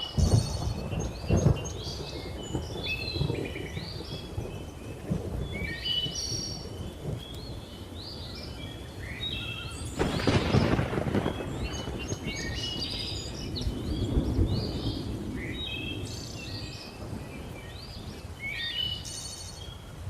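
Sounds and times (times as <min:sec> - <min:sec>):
birds chirping and trilling: 0:00.0 - 0:20.0
thunder rumbling: 0:00.0 - 0:20.0.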